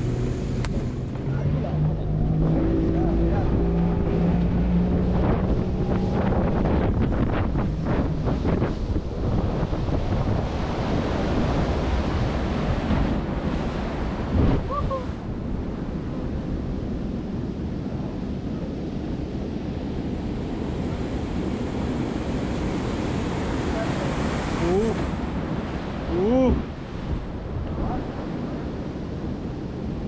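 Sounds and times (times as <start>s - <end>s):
surf rushing around boat hull: 0.0s - 30.0s
wind buffeting microphone: 0.0s - 30.0s.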